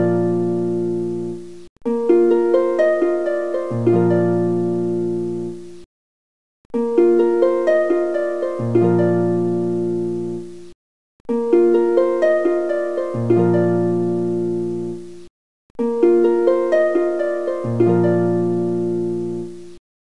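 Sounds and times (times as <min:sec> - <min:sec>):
plucked string music over low drone: 0:00.0 - 0:05.7, 0:06.8 - 0:10.5, 0:11.3 - 0:15.0, 0:15.8 - 0:19.7.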